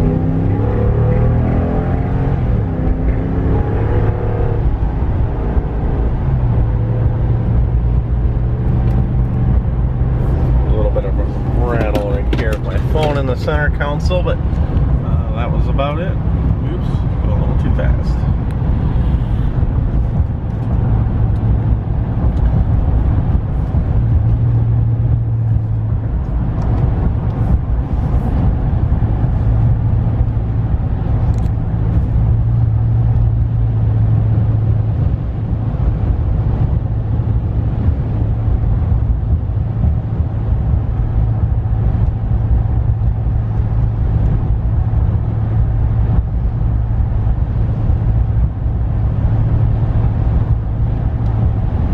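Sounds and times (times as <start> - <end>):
road and tyre noise: 0.0 - 51.9
truck engine drone: 0.0 - 51.9.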